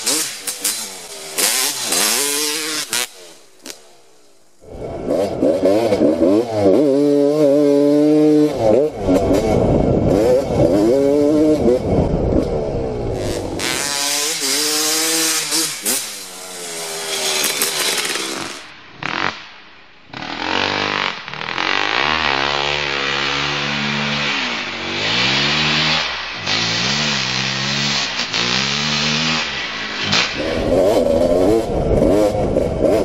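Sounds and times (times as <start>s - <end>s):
dirt bike engine revving: 0.0s - 3.9s, 4.6s - 19.5s, 20.1s - 33.0s.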